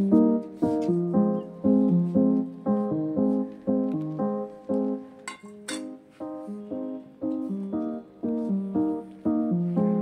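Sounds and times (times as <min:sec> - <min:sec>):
keyboard chords music: 0:00.0 - 0:10.0.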